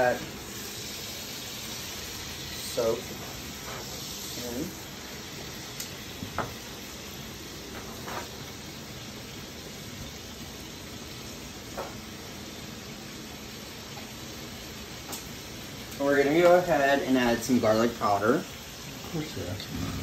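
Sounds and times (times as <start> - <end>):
chicken sizzling in a frying pan: 0.0 - 20.0.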